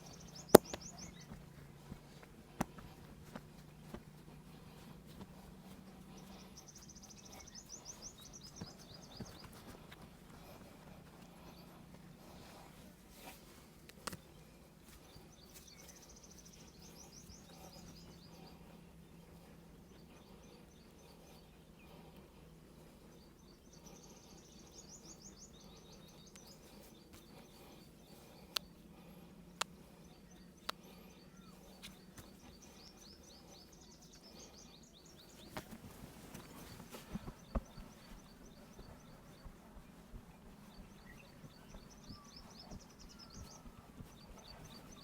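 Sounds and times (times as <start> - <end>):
faint birds chirping: 0.0 - 45.0
steady low hum: 0.0 - 45.0.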